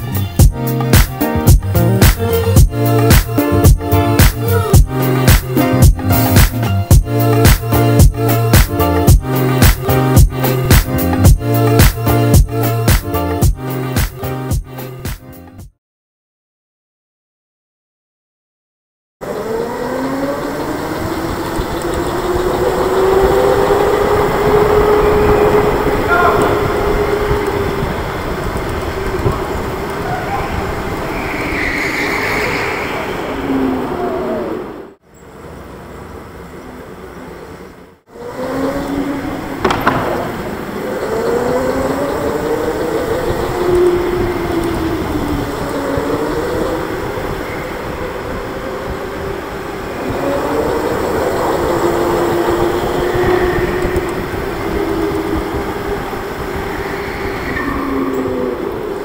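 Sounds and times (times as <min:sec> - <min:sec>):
tyres and wind rumble: 0:00.0 - 0:15.5, 0:19.2 - 0:59.0.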